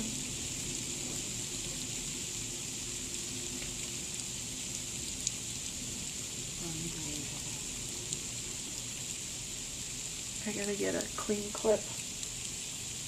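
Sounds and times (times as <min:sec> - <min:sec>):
freezing rain falling: 0:00.0 - 0:13.0.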